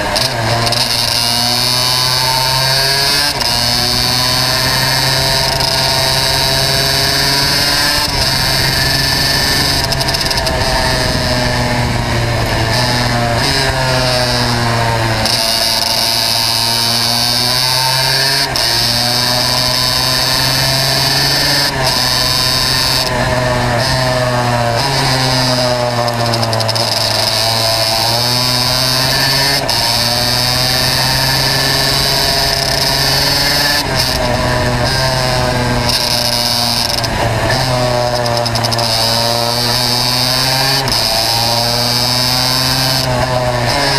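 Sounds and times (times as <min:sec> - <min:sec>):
two-stroke kart engine revving: 0:00.0 - 0:43.9.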